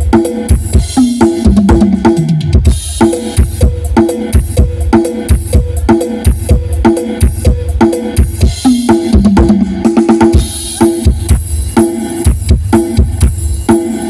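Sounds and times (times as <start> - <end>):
drum-heavy music through speakers: 0.0 - 14.0.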